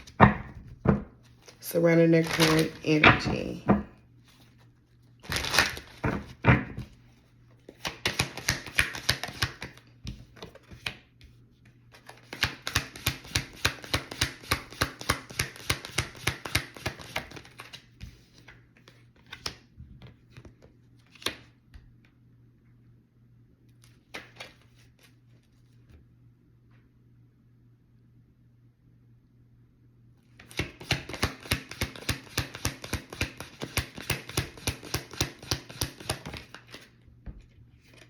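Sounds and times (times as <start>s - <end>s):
cards being shuffled: 0.0s - 21.6s, 23.8s - 26.0s, 30.4s - 38.0s.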